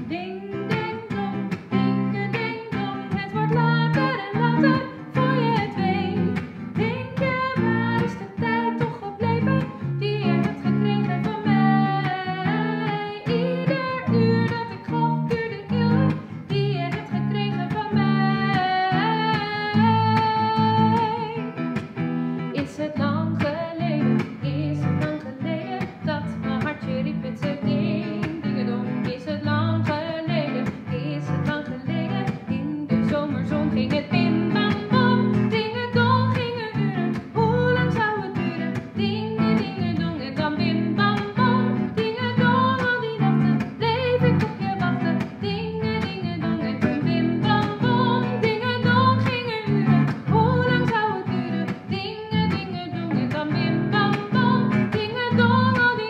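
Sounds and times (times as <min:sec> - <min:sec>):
electric guitar plucked chords: 0:00.0 - 0:56.0
woman singing: 0:00.0 - 0:56.0.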